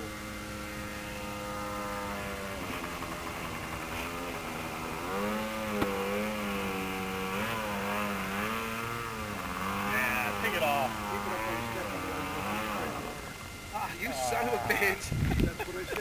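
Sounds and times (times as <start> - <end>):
model plane engine droning: 0.0 - 16.0.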